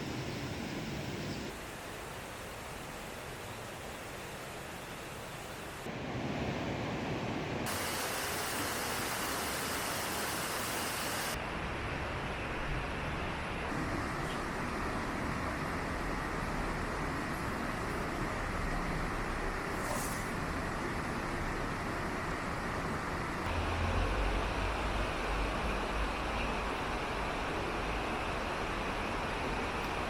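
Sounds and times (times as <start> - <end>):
rushing outdoor noise: 0.0 - 30.0.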